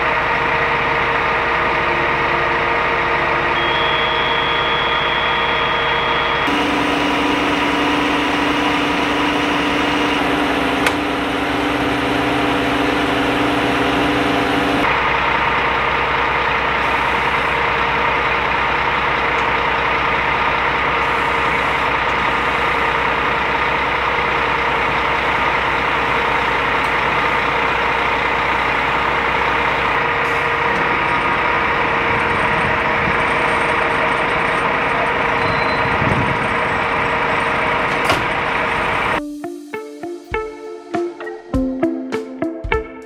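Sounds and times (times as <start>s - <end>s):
constant whine: 0.0s - 39.2s
truck engine running: 0.0s - 39.2s.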